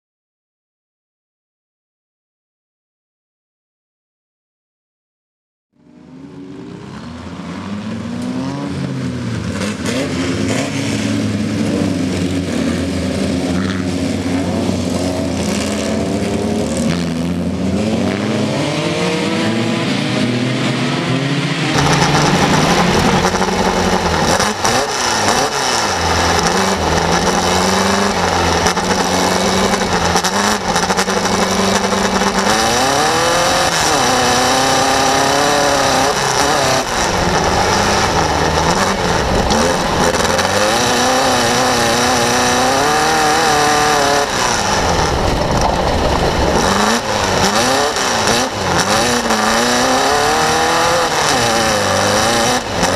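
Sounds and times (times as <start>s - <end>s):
race buggy engine revving: 5.8s - 52.9s.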